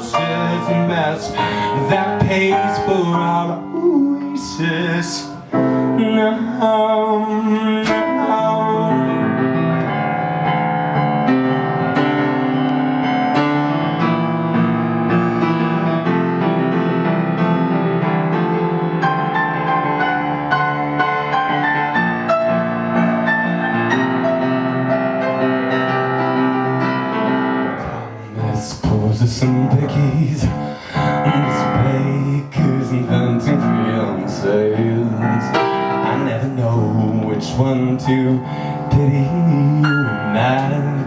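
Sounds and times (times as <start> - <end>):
instrumental piano music: 0.0 - 41.0.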